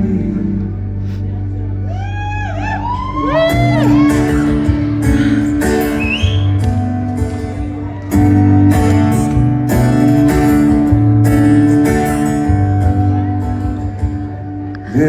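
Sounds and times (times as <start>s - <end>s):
steady bass line: 0.0s - 15.0s
strummed guitar chords: 0.0s - 15.0s.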